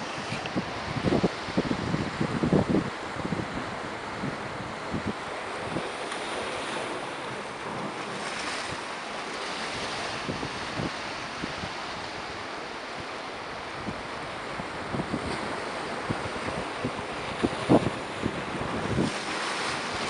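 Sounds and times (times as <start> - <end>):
waves breaking over rocks: 0.0 - 20.0
wind buffeting microphone: 0.0 - 20.0.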